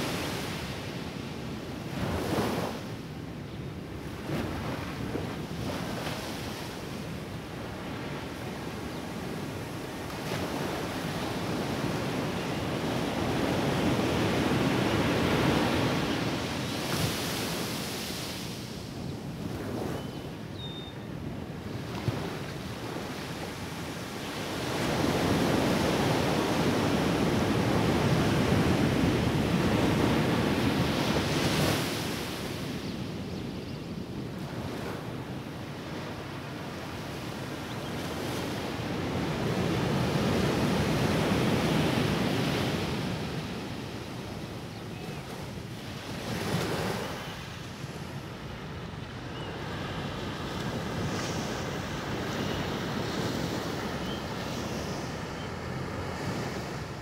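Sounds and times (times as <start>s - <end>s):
waves breaking on beach: 0.0s - 2.9s, 3.9s - 20.0s, 21.5s - 32.9s, 34.2s - 57.0s.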